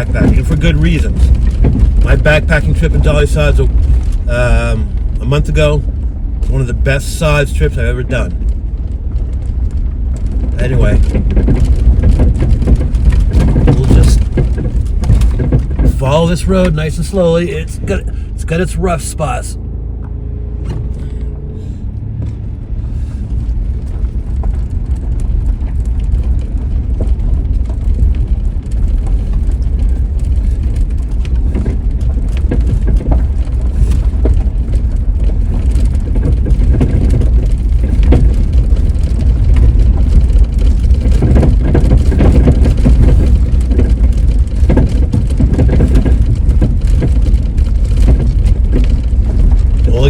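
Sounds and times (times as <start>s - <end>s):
knocks and rattles from bumps: 0.0s - 19.4s, 20.6s - 50.0s
truck engine and tyres rumbling: 0.0s - 50.0s.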